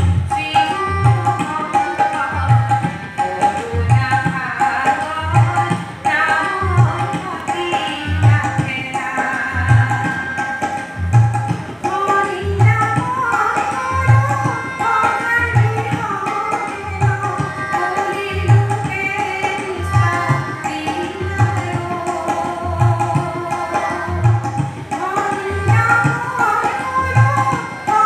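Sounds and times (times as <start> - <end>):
tabla rhythm: 0.0 - 28.0.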